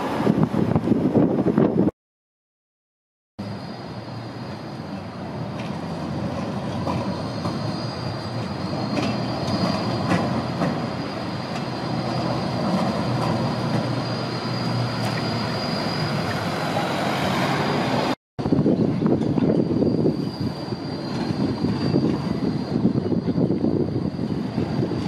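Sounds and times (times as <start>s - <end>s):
tram passing: 0.0s - 1.9s, 3.4s - 25.0s
high-pitched wheel squeal: 3.4s - 18.1s, 19.0s - 25.0s.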